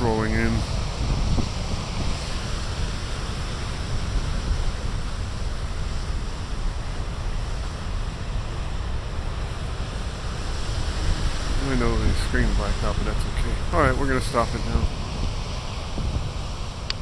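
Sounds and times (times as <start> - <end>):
waves breaking: 0.0 - 17.0
wind on microphone: 0.0 - 17.0.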